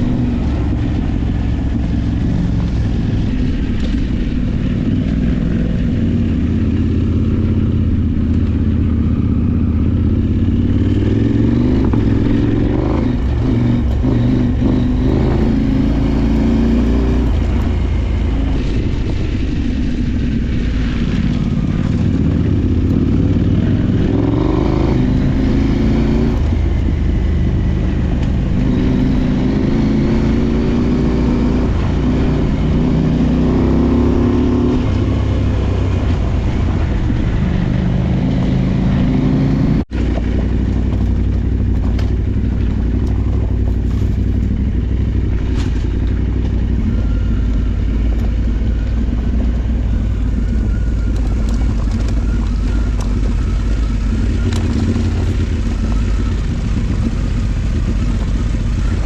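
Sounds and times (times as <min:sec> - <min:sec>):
motorcycle engine running off-road: 0:00.0 - 0:59.0.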